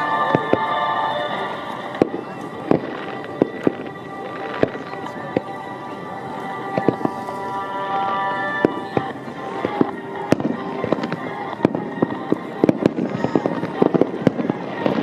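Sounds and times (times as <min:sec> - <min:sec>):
fireworks bangs and cracks: 0:00.0 - 0:05.6, 0:06.6 - 0:15.0.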